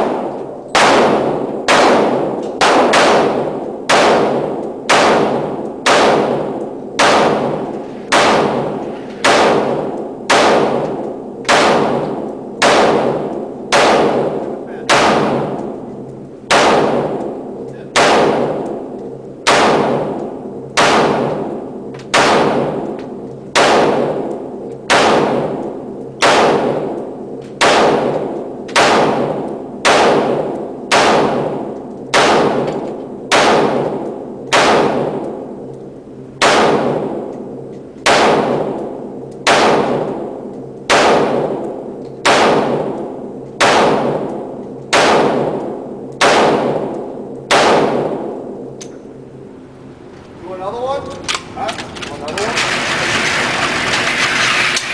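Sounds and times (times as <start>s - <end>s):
echoing gunshots: 0.0s - 35.6s, 36.4s - 48.8s, 49.8s - 54.9s.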